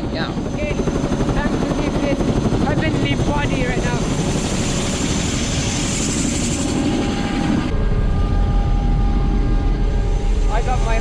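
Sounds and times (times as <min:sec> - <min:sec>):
helicopter engine and rotor running: 0:00.0 - 0:11.0.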